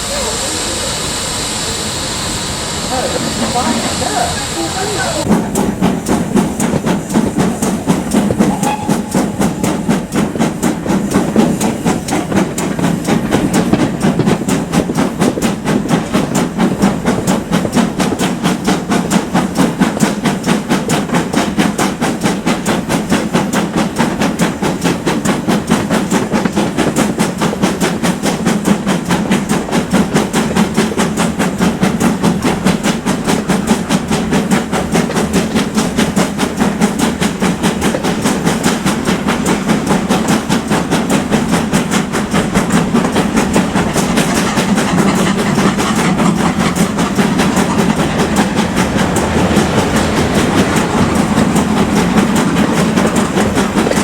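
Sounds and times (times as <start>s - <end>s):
steam locomotive exhaust beats: 0.0s - 54.0s
train running on track: 0.0s - 54.0s.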